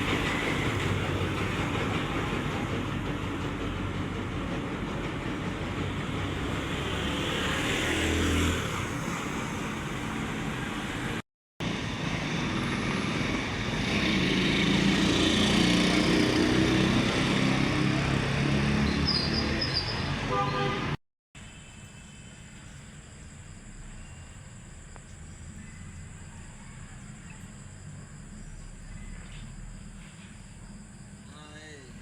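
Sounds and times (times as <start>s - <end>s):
road noise: 0.0s - 32.0s.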